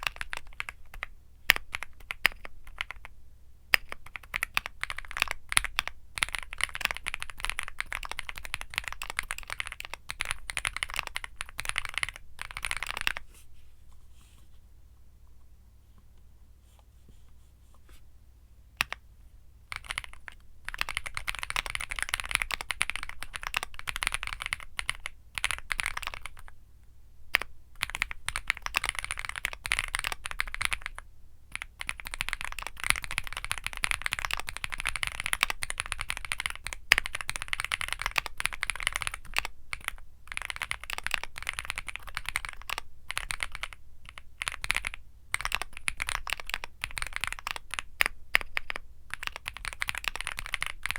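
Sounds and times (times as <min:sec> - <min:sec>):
mechanical keyboard typing: 0:00.0 - 0:03.1, 0:03.7 - 0:13.2, 0:18.8 - 0:19.0, 0:19.7 - 0:26.5, 0:27.3 - 0:50.9.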